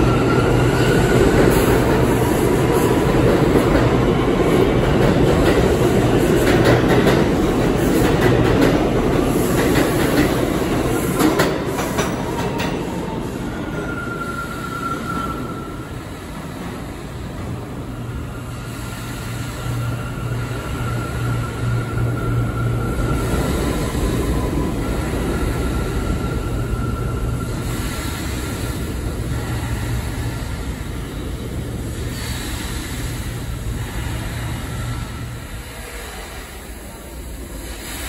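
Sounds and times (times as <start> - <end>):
subway train rumble: 0.0 - 38.0.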